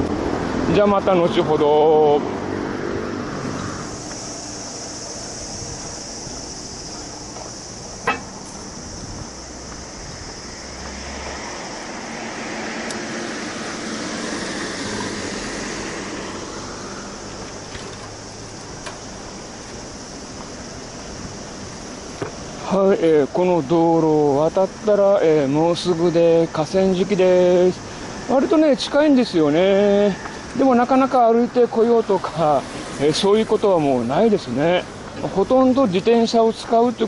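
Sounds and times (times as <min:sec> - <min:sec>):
cars passing: 0:00.0 - 0:37.0
steady high hiss: 0:00.0 - 0:37.0.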